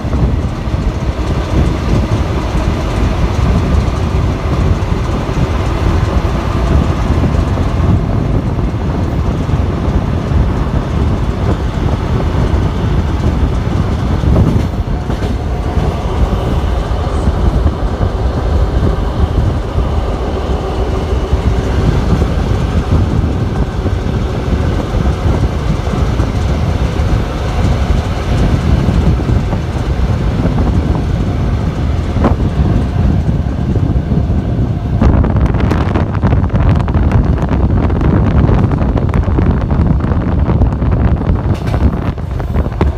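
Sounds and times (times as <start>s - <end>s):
sharp knocks of train wheels: 0.0s - 42.9s
train wheels rumbling on rails: 0.0s - 42.9s.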